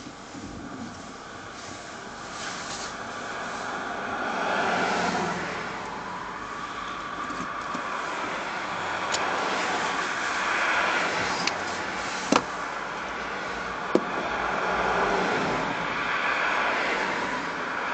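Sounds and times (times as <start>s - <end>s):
distant racing cars droning: 0.0s - 17.9s.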